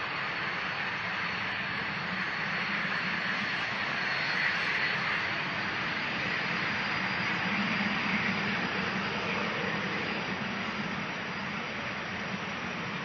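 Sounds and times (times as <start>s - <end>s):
jet engines rushing with whine: 0.0s - 13.0s.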